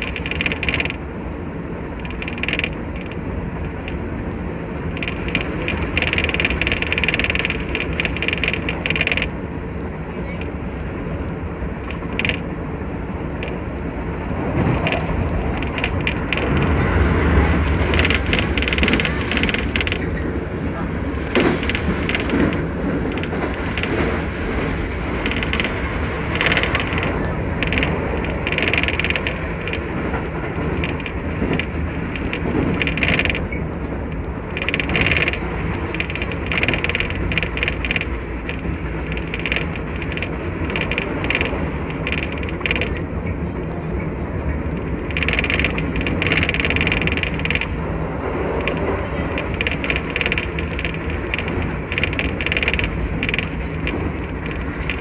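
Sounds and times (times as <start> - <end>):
train wheels rumbling and rattling: 0.0 - 55.0.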